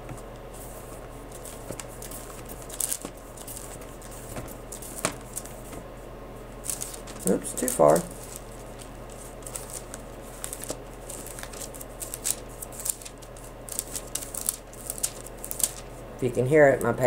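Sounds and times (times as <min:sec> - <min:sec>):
thin pages rustling: 0:00.1 - 0:05.8, 0:06.6 - 0:16.0.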